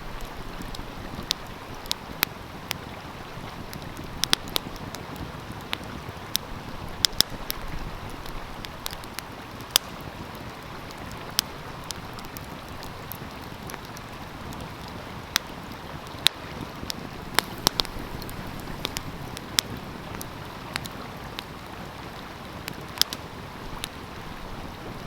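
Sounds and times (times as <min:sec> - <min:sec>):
stream rushing: 0:00.0 - 0:25.0
wood fire crackling: 0:00.0 - 0:25.0.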